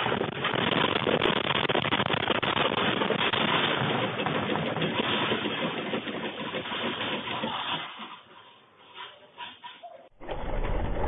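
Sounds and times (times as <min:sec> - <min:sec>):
room rattling in earthquake: 0:00.0 - 0:11.0.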